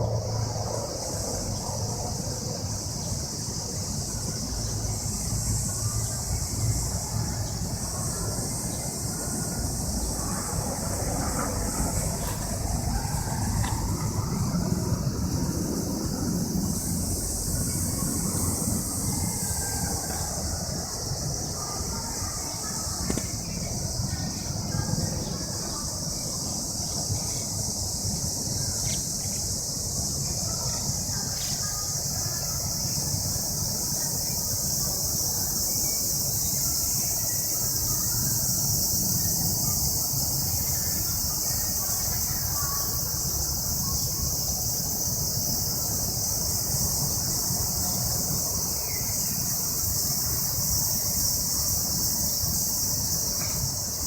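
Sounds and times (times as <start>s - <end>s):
cicadas singing: 0.0s - 54.0s.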